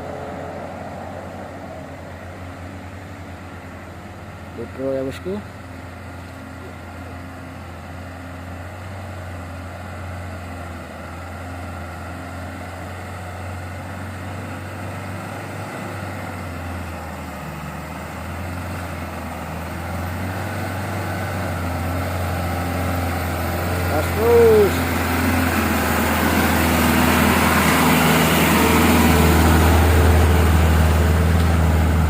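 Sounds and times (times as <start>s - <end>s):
truck diesel engine labouring: 0.0s - 32.0s.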